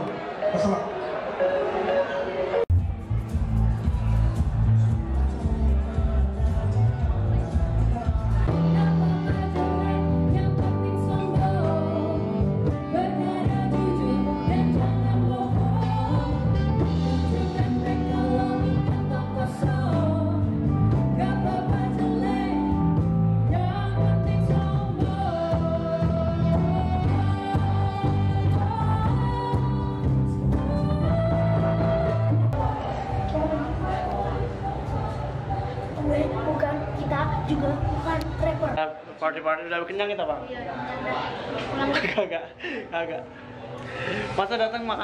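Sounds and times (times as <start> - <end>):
keyboard: 0.0 - 39.1
bass guitar: 2.7 - 38.8.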